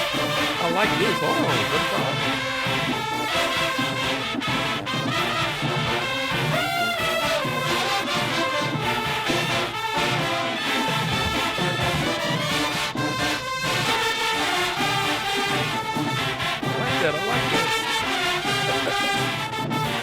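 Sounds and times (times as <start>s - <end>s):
brass horns playing tune: 0.0s - 20.0s
steady drumbeat: 0.0s - 20.0s.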